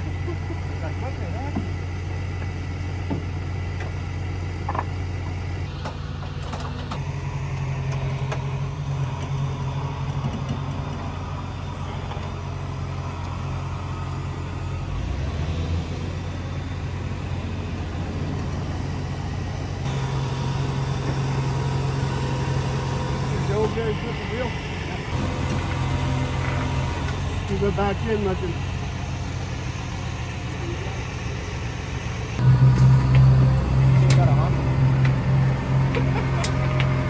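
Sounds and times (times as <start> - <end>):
car engine droning: 0.0 - 37.0.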